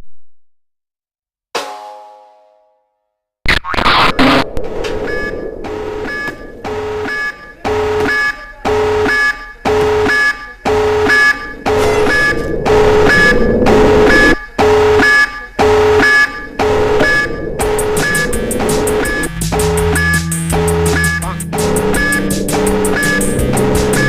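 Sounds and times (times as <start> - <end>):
pulsing alarm signal: 3.9 - 24.0.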